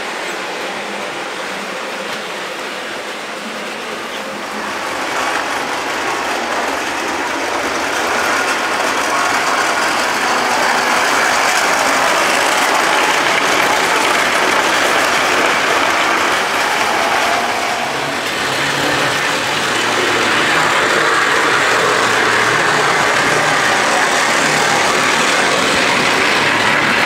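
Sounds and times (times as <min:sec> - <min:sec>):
model train wheels rattling on rails: 0:00.0 - 0:27.0.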